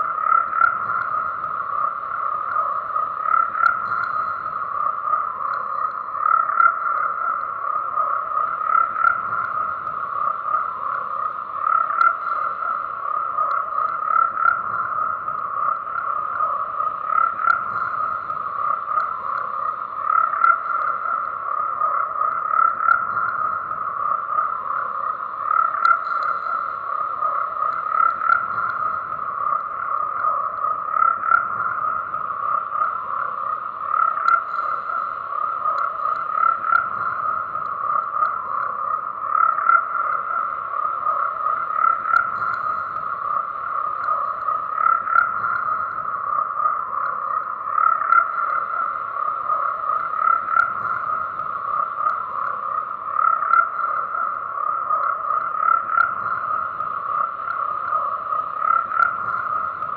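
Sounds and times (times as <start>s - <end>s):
frogs croaking in chorus: 0.0s - 59.9s.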